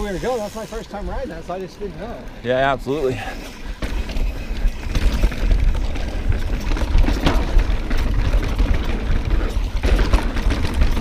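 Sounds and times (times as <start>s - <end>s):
bike rattles and clicks: 0.0s - 11.0s
bike tyre noise: 0.0s - 11.0s.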